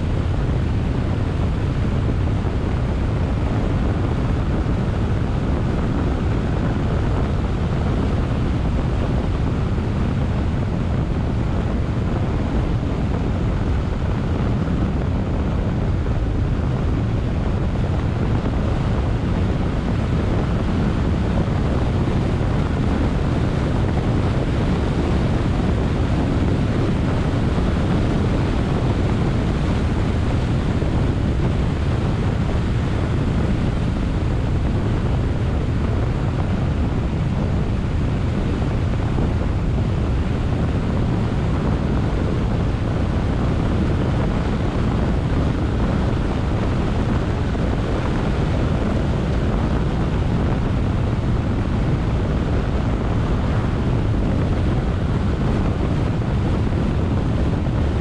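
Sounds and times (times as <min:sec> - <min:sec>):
car tyre and wind road noise: 0:00.0 - 0:58.0.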